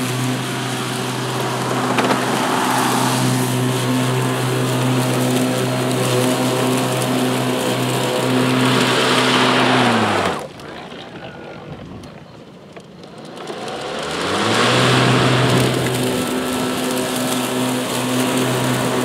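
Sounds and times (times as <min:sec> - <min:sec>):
mower blades hissing in grass: 0:00.0 - 0:11.2, 0:13.1 - 0:19.0
electric mower hum: 0:00.0 - 0:19.0.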